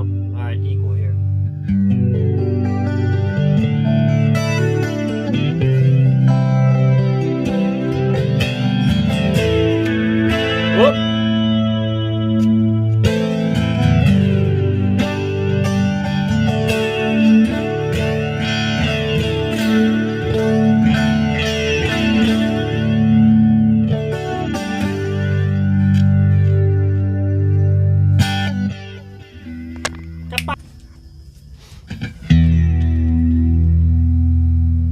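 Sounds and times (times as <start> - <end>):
clean electric guitar chords: 0.0 - 30.8, 32.0 - 34.9.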